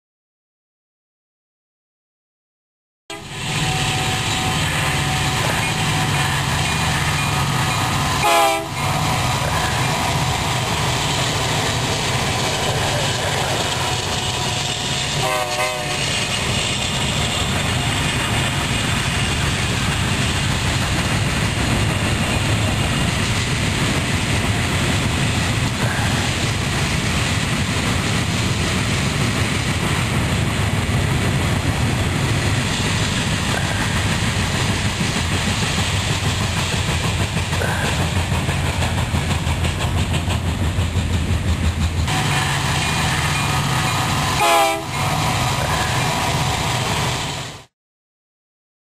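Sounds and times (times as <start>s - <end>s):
train cars rumbling and clattering: 3.1s - 47.7s.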